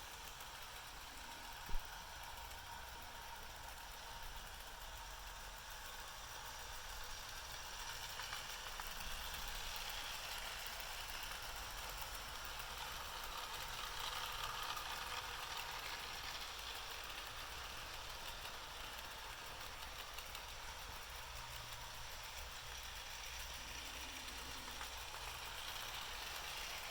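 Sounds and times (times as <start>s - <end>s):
model train motor and rail rattle: 0.0s - 26.9s.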